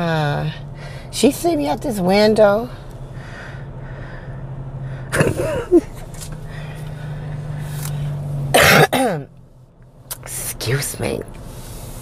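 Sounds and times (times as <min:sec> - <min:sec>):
idling car hum: 0:00.0 - 0:12.0.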